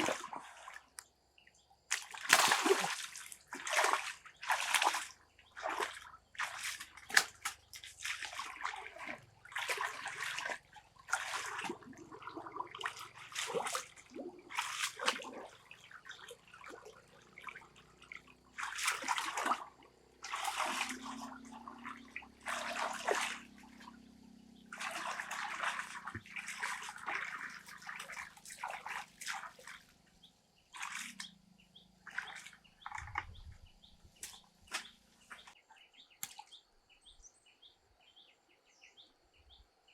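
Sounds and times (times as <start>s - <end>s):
water splashing and sloshing: 0.0s - 35.6s.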